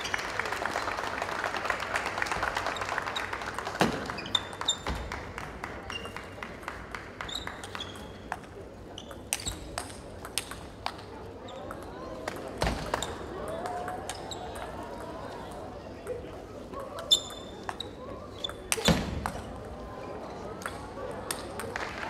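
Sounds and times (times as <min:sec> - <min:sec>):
crowd noise: 0:00.0 - 0:22.0.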